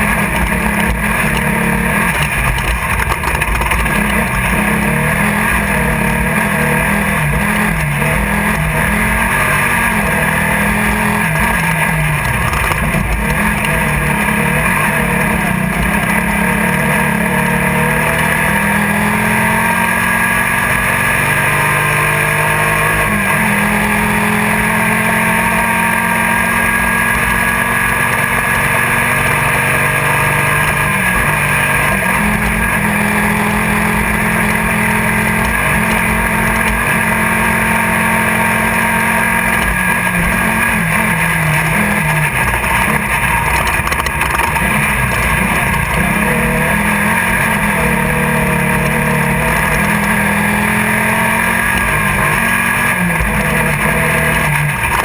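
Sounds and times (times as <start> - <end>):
buggy engine running hard: 0.0 - 55.0.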